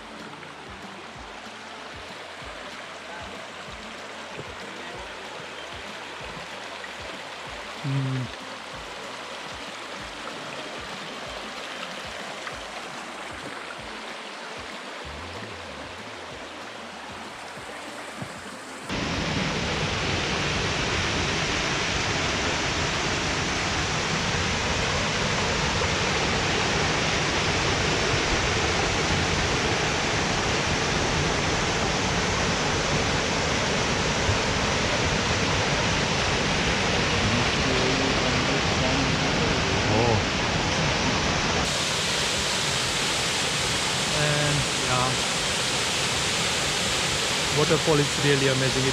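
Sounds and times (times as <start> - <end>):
rushing stream and waterfall: 0.0 - 48.9.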